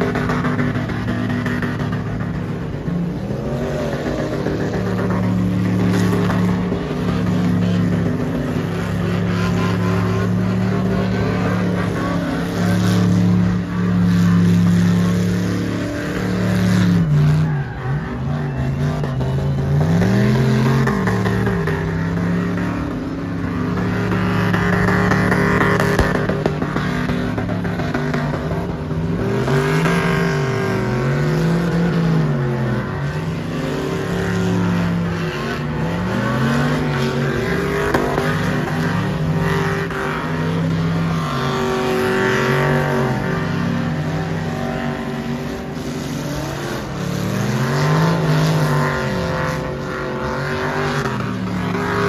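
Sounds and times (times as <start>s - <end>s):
pickup truck engine revving: 0.0s - 52.0s.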